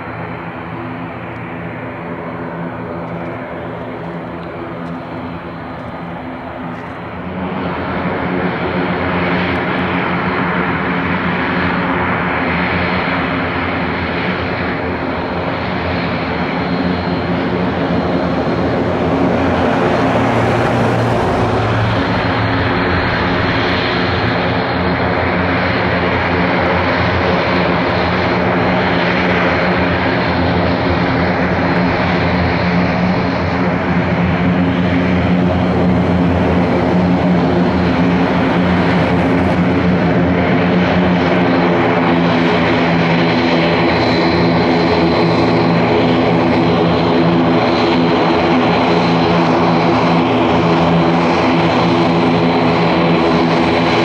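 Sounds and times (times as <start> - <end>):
turboprop engines running: 0.0 - 54.0.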